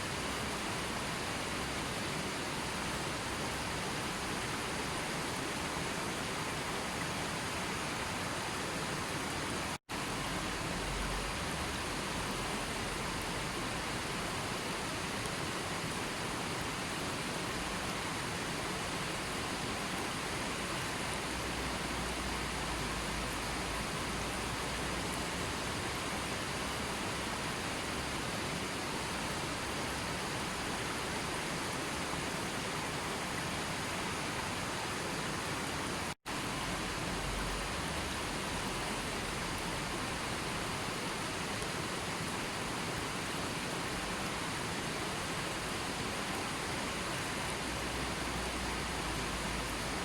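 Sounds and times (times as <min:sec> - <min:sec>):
water rushing: 0:00.0 - 0:50.0.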